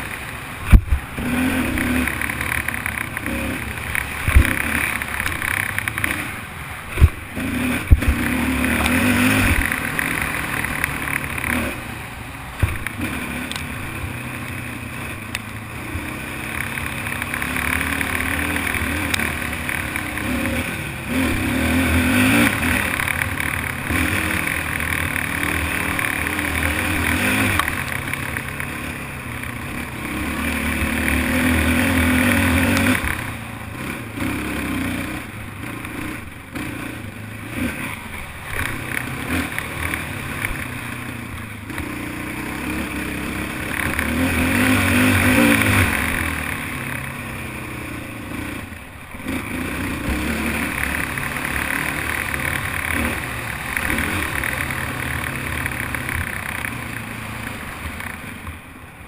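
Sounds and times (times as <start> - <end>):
quad engine revving: 0.0 - 58.5.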